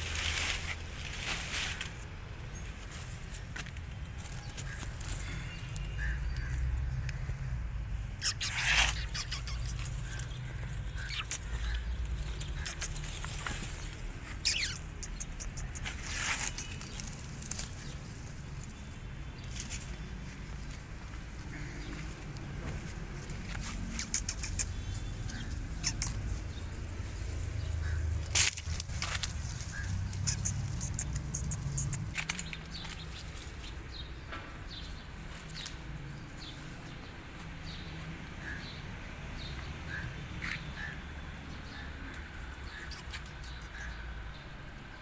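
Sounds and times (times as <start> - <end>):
dry leaves rustling: 0.0 - 7.2, 8.2 - 38.6
small birds chirping: 1.2 - 45.0.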